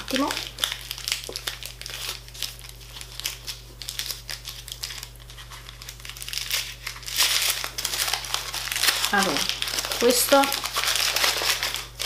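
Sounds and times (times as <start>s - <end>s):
paper wrapping crinkling: 0.0s - 12.0s.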